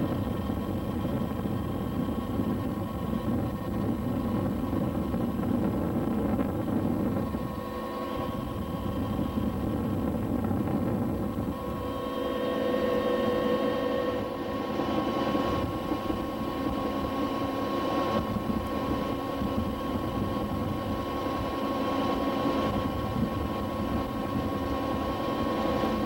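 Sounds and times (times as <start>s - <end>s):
helicopter engine and rotor noise: 0.0s - 26.0s.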